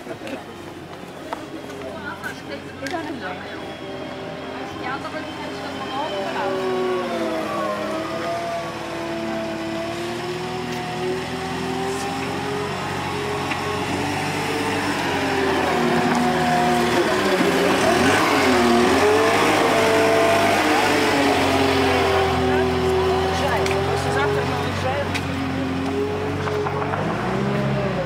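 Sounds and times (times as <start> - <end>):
dumper engine running: 0.0 - 28.0.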